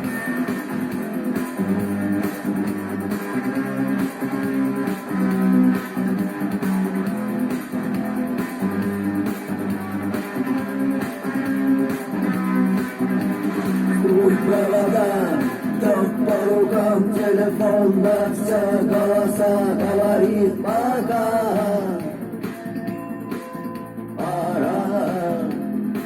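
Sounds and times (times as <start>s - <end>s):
repeating bass line: 0.0s - 26.0s
rock guitars playing: 0.0s - 26.0s.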